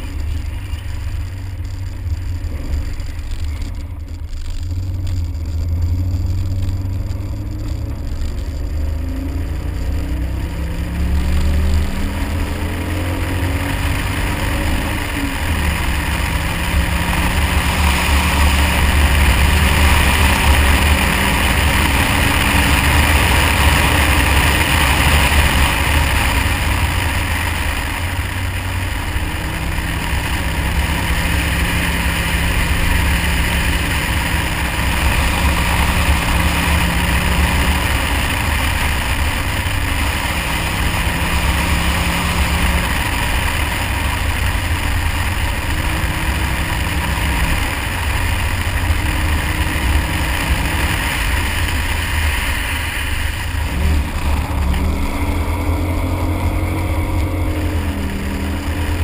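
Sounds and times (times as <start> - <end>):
car engine pulling hard: 0.0 - 59.0
wind and tyres rushing through snow: 0.0 - 59.0.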